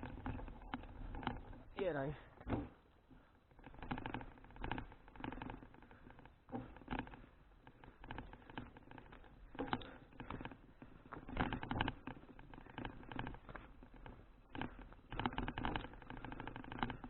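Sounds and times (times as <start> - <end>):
bicycle rattling and clicking: 0.0 - 17.0.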